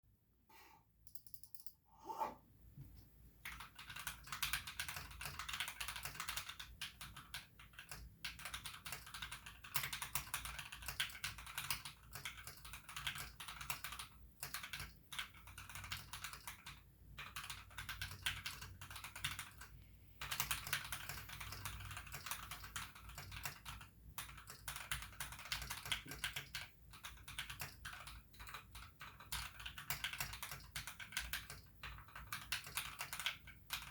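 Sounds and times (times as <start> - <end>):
mechanical keyboard typing: 3.4 - 33.9.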